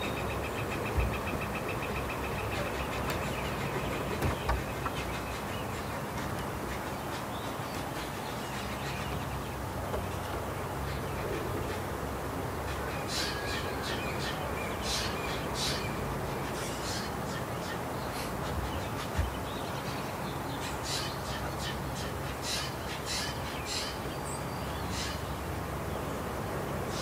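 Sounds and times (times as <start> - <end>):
jays calling: 0.0 - 24.2.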